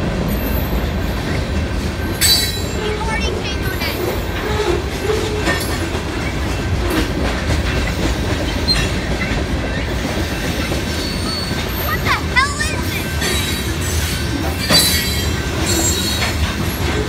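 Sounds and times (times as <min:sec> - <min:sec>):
train wheels rumbling on rail: 0:00.0 - 0:17.0
wheels clicking over rail joints: 0:00.2 - 0:17.0.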